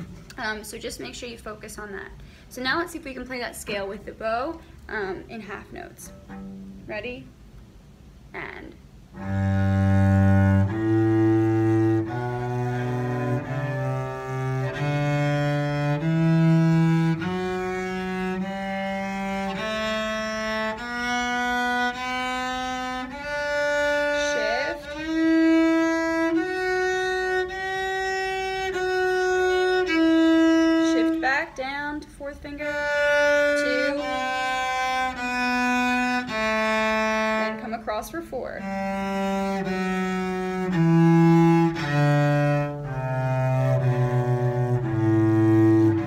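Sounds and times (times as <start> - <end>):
solo cello playing a scale: 6.0 - 6.8, 9.1 - 46.0.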